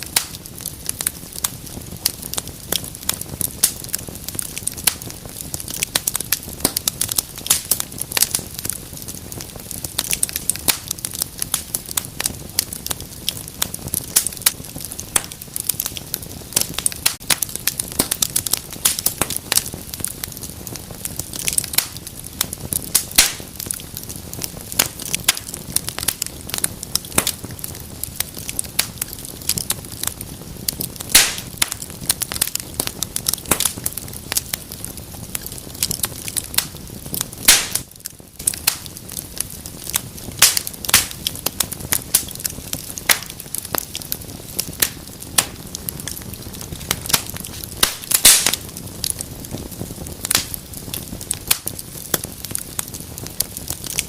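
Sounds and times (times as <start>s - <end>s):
flame hissing: 0.0s - 54.0s
wood fire crackling and popping: 0.0s - 54.0s.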